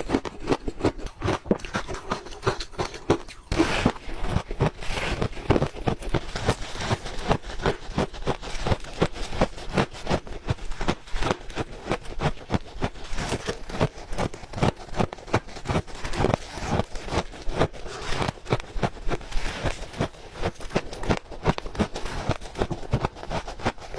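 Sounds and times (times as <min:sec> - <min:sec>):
ice being chewed: 0:00.0 - 0:23.9.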